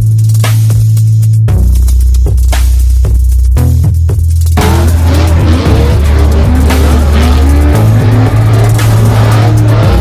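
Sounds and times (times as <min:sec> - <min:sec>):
electronic music with deep bass: 0:00.0 - 0:10.0
truck engines revving: 0:01.3 - 0:10.0.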